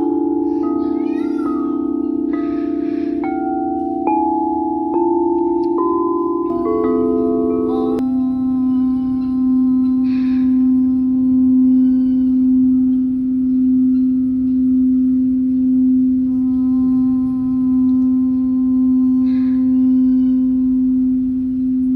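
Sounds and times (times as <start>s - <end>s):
singing bowl ringing: 0.0s - 21.9s.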